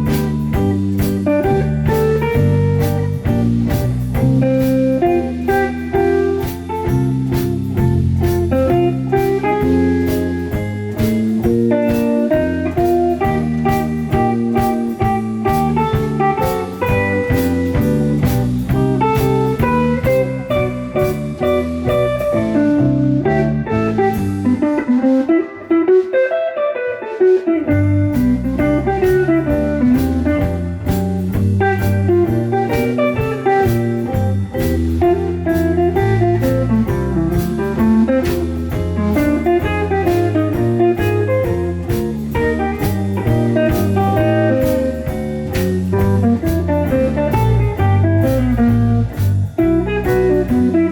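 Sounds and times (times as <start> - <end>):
drums playing: 0.0 - 26.2, 27.2 - 50.9
bass guitar: 0.0 - 50.9
melodic instrumental line: 0.0 - 50.9.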